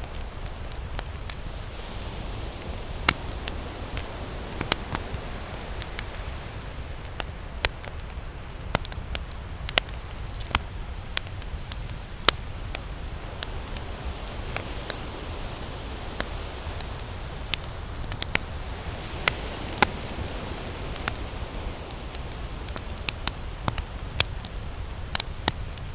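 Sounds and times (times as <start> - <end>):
campfire crackling: 0.0 - 25.9.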